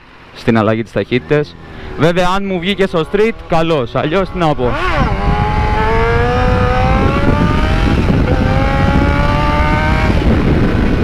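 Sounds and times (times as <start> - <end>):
motorcycle engine accelerating: 1.4 - 11.0
heavy wind noise: 1.6 - 11.0.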